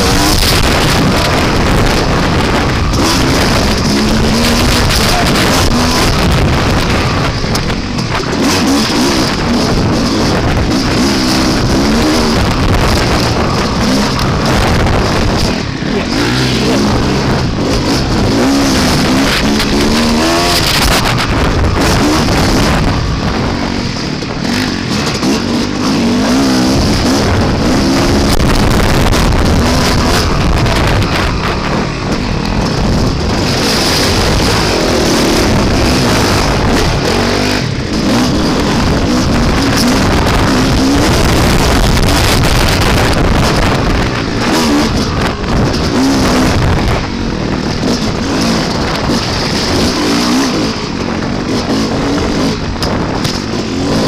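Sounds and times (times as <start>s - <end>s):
dirt bike engine revving: 0.0s - 54.0s
wind noise on microphone: 0.0s - 54.0s.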